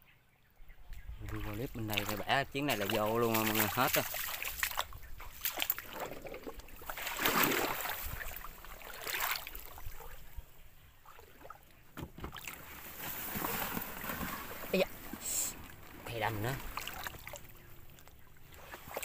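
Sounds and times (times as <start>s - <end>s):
water sloshing and splashing: 1.2s - 19.0s.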